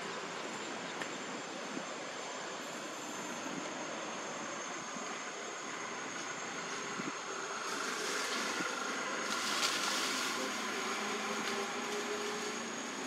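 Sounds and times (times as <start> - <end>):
thin high steady whine: 0.0 - 13.0
even hiss: 1.6 - 13.0.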